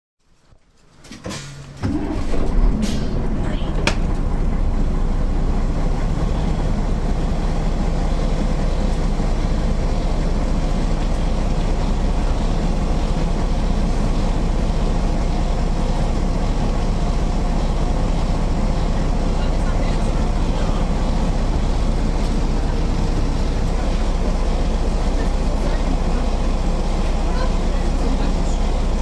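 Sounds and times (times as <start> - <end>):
bus diesel engine running: 0.2 - 29.0.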